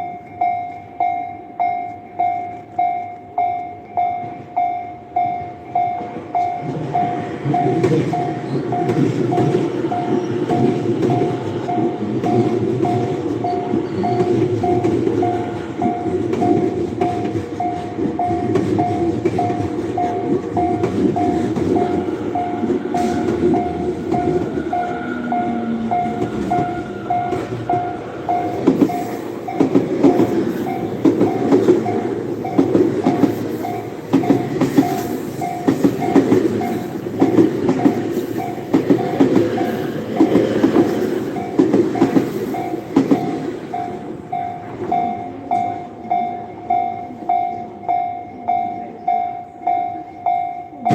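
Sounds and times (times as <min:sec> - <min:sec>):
railroad crossing alarm ringing: 0:00.0 - 0:50.9
train wheels clattering: 0:01.7 - 0:47.2.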